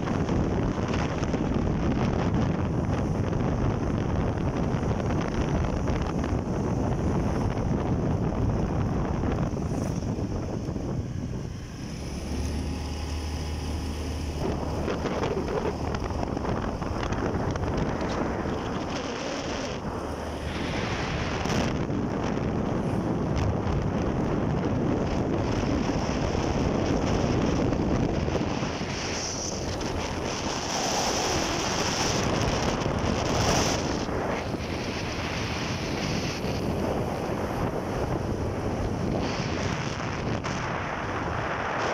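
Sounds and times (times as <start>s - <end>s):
road noise: 0.0s - 41.9s
wind buffeting microphone: 0.0s - 41.9s.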